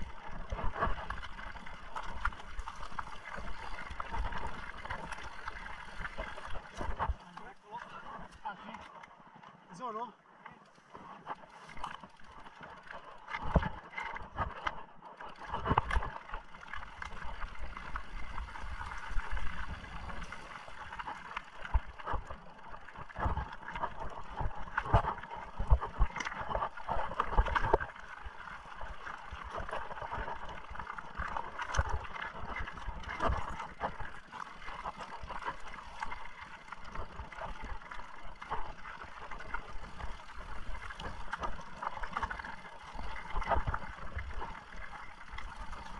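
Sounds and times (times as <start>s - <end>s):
bike tyres rolling: 0.0s - 8.6s, 10.7s - 45.9s.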